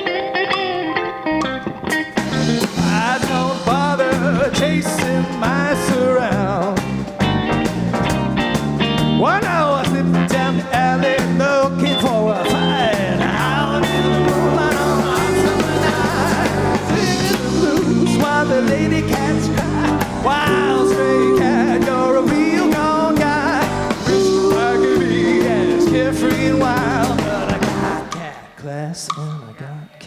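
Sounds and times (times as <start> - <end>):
lead guitar line with bending notes: 0.0 - 28.5
drums: 0.0 - 30.0
bass line: 1.3 - 29.3.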